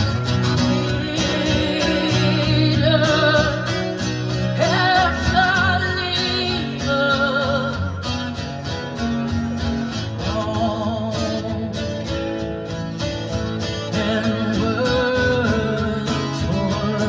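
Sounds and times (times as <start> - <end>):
person singing with vibrato: 0.0 - 8.8, 9.8 - 12.2, 13.6 - 17.0
acoustic guitar strumming: 0.0 - 17.0.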